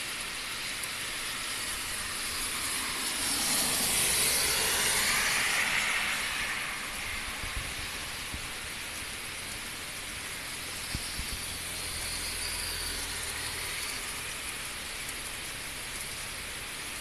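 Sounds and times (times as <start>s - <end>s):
heavy rain on asphalt: 0.0s - 17.0s.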